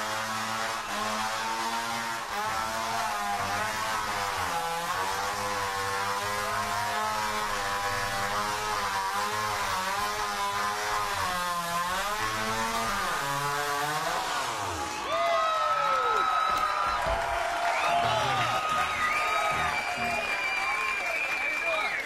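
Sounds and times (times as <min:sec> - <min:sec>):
chainsaw engine revving: 0:00.0 - 0:15.1, 0:17.8 - 0:20.7.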